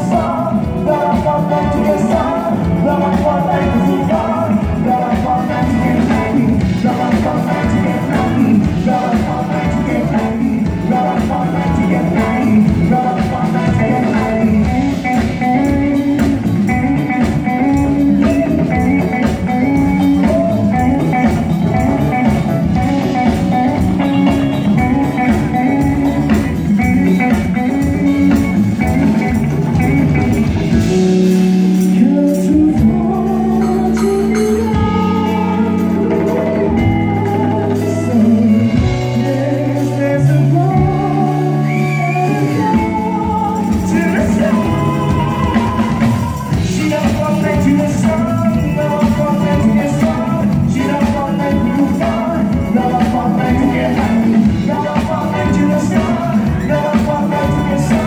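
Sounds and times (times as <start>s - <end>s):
drum kit: 0.0s - 58.0s
electric guitar: 0.0s - 58.0s
held bass notes: 0.0s - 58.0s
person singing: 0.0s - 58.0s.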